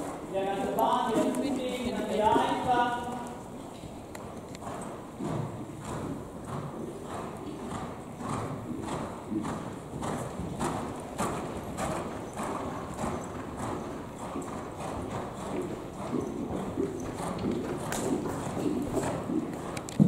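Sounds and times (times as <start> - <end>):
horse hoofbeats trotting on sand: 0.0 - 20.0.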